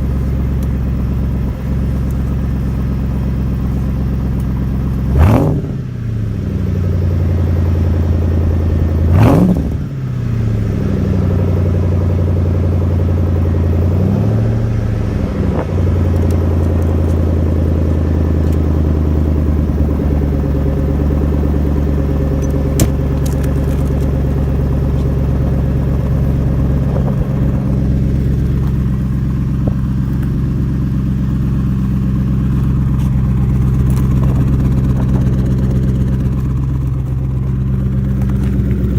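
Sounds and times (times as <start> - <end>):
car engine idling: 0.0 - 38.9
car engine revving: 0.0 - 38.9.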